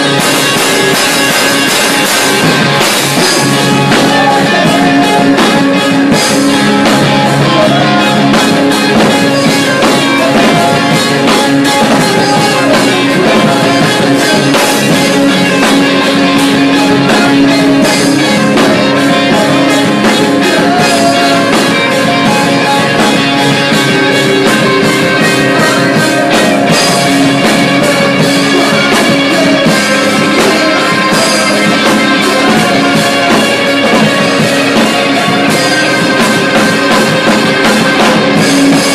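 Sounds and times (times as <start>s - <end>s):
drum kit driving beat: 0.0s - 38.9s
electric guitars: 0.0s - 38.9s.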